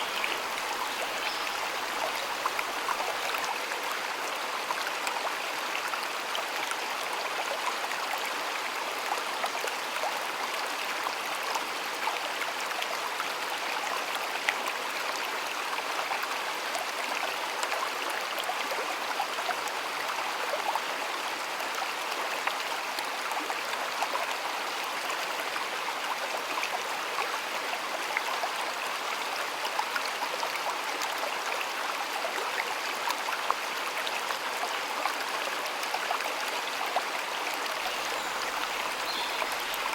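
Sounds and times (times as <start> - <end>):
shallow stream babbling: 0.0 - 39.9.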